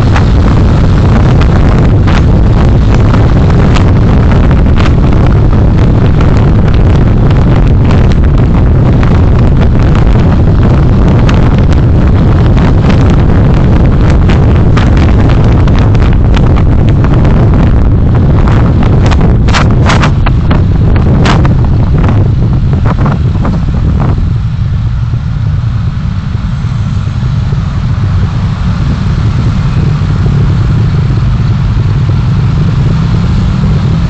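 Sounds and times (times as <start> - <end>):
road and engine rumble: 0.0 - 34.0.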